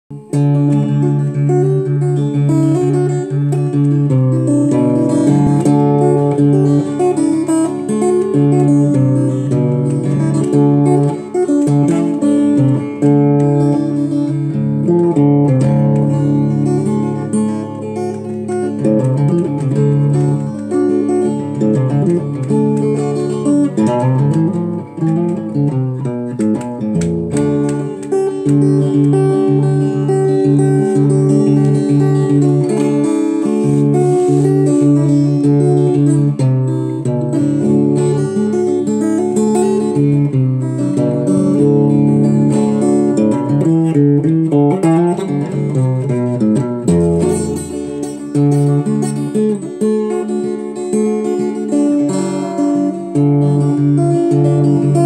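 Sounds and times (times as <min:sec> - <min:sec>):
acoustic guitar improvisation: 0:00.1 - 0:55.0.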